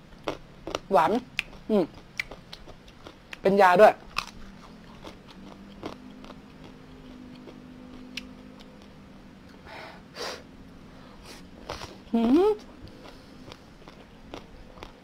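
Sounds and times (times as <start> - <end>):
man chewing food: 0.0 - 9.6, 10.7 - 15.0.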